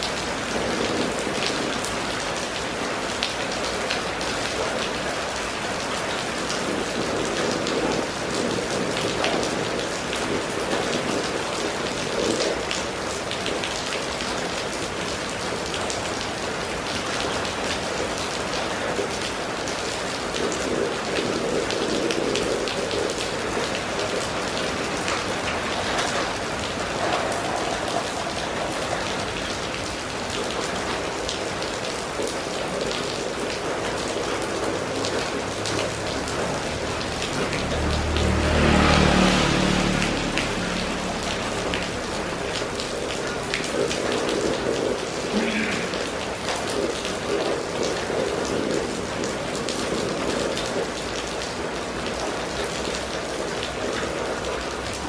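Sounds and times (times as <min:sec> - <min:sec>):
rain splashing on wet street: 0:00.0 - 0:55.0.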